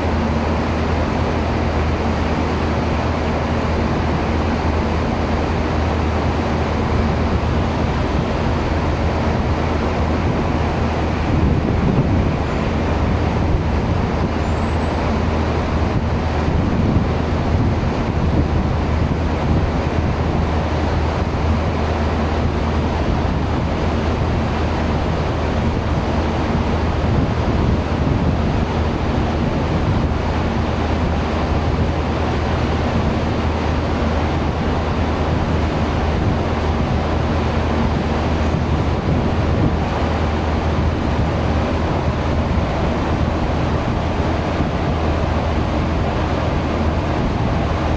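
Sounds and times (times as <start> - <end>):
moving water: 0.0 - 47.9
ship engines droning: 0.0 - 47.9
wind on microphone: 0.0 - 47.9.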